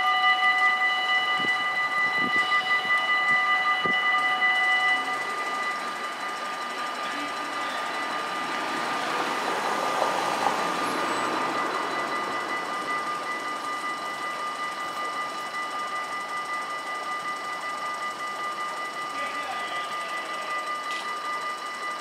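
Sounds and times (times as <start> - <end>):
level crossing warning bells ringing: 0.0 - 22.0.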